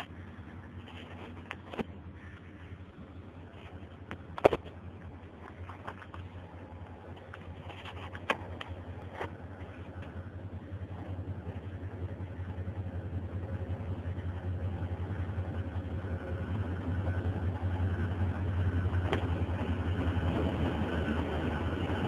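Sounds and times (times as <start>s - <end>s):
diesel locomotive engine throbbing: 0.0s - 22.0s.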